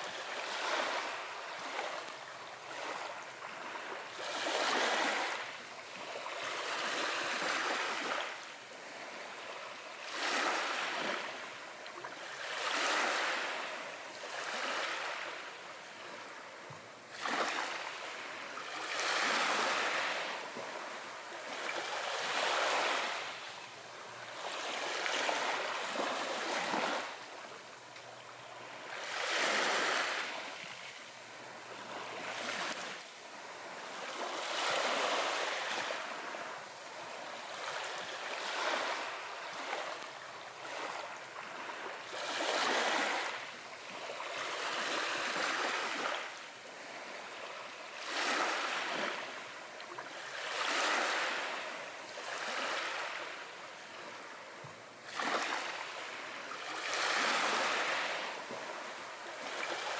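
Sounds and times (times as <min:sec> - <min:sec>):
small ocean waves washing in: 0:00.0 - 0:59.9.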